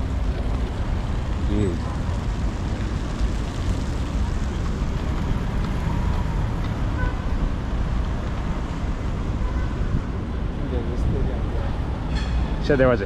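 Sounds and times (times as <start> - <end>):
wind buffeting microphone: 0.0 - 12.1
faint street noise: 0.0 - 13.0.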